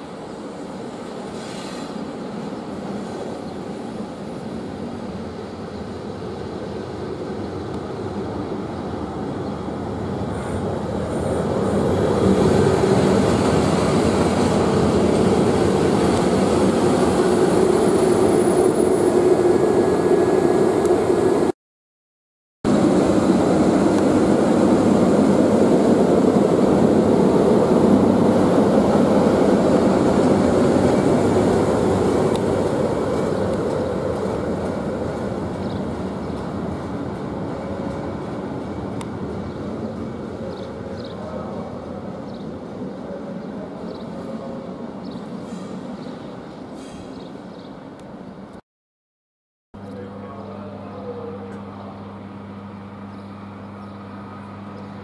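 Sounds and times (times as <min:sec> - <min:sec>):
electric locomotive humming past: 0:00.0 - 0:21.5, 0:22.7 - 0:48.5, 0:49.8 - 0:55.0.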